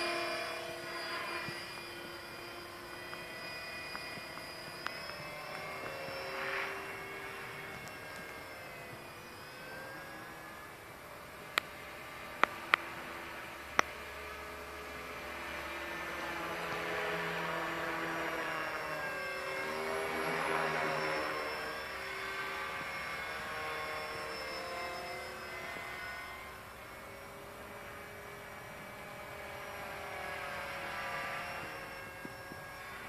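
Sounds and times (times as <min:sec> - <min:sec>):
rc helicopter rotor whine: 0:00.0 - 0:33.0.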